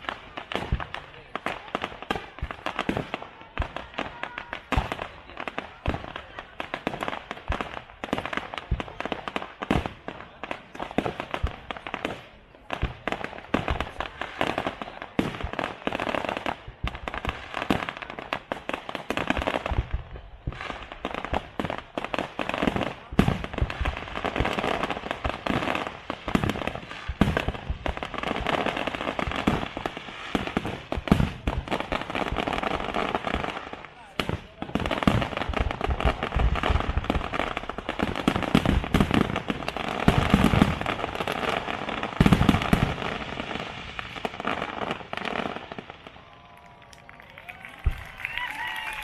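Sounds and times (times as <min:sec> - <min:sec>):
fireworks bangs: 0:00.0 - 0:49.0.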